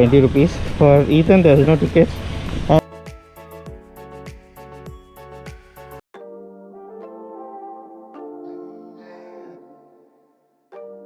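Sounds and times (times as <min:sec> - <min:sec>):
soft ambient music: 0:00.0 - 0:11.0.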